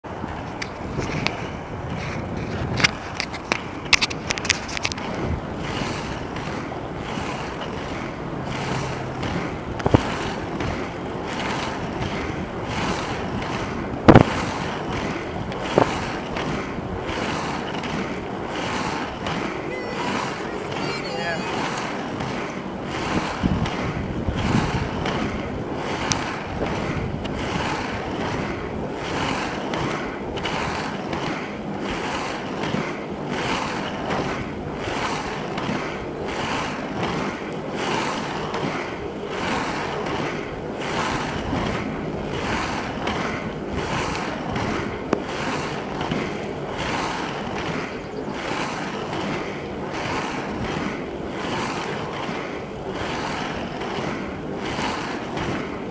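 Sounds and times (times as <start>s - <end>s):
skate wheels rolling on asphalt: 0.0s - 55.9s
wind buffeting microphone: 0.0s - 55.9s.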